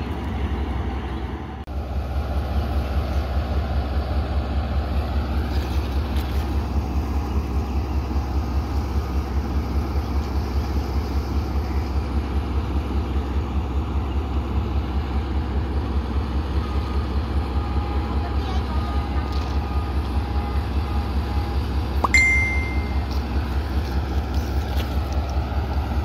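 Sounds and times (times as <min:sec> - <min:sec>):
diesel locomotive engine throbbing: 0:00.0 - 0:26.0.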